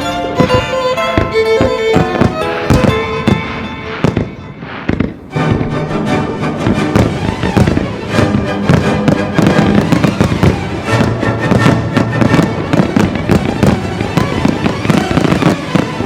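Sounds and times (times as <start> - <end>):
music with held tones: 0.0 - 13.0
fireworks bursting and crackling: 0.0 - 16.0.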